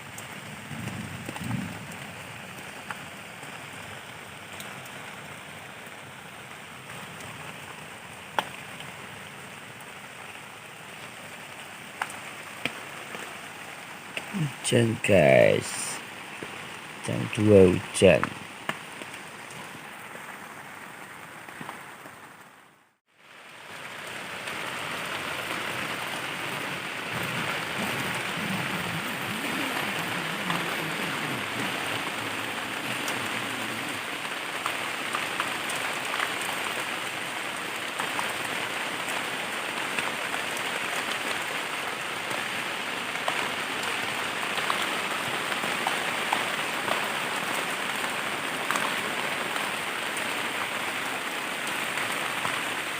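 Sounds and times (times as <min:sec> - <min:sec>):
heavy rain on a tent: 0:00.0 - 0:52.9.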